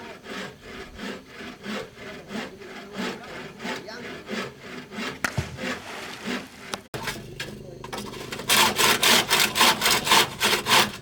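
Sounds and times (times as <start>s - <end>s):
hand saw cutting wood: 0.0s - 7.2s, 7.9s - 11.0s.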